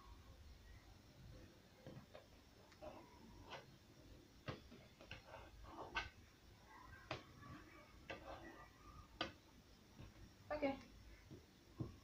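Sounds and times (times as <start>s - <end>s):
dough handling: 1.2s - 12.0s.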